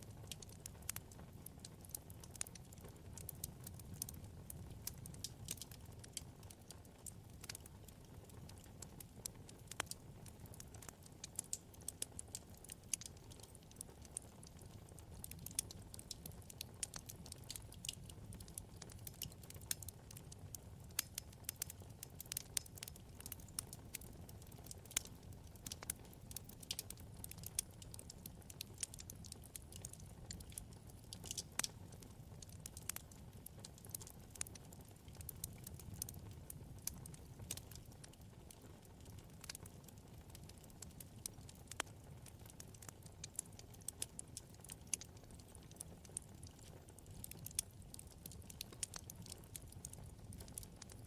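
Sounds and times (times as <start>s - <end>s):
logs crackling and popping: 0.0s - 51.0s.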